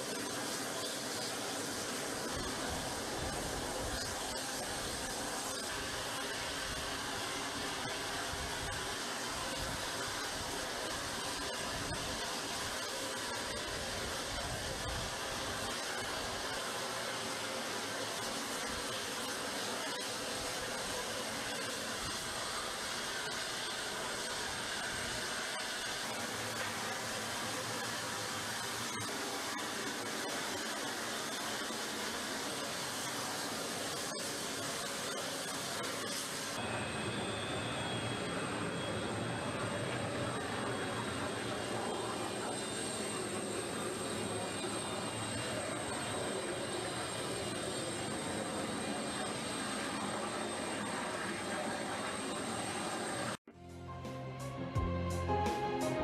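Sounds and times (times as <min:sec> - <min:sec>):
faint high whine: 0:00.0 - 0:53.4.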